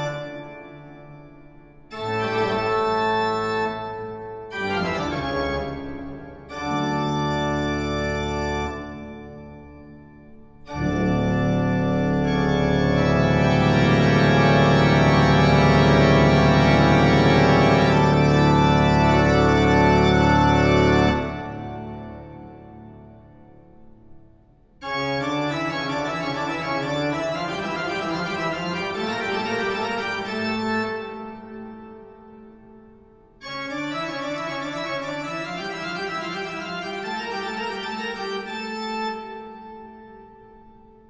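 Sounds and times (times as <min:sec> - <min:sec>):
organ music: 0:00.0 - 0:24.2, 0:24.8 - 0:41.0.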